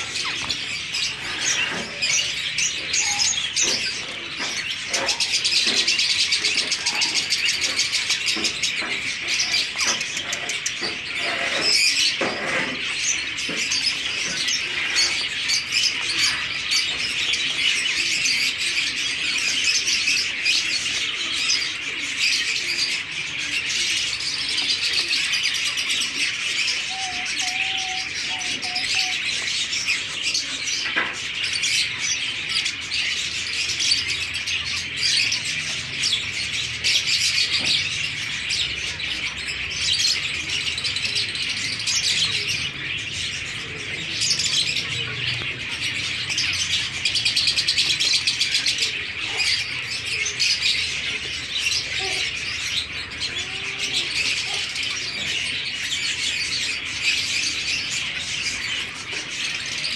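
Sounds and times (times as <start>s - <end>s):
finches chirping and calling: 0.0s - 59.9s.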